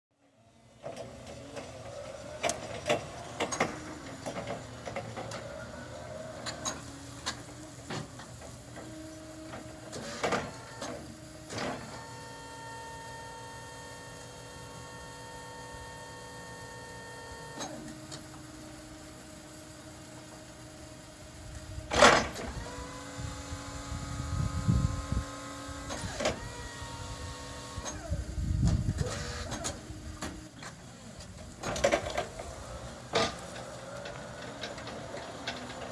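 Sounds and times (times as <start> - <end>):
electric forklift motor whine: 0.2 - 35.9
steady multi-tone whine: 0.2 - 35.9.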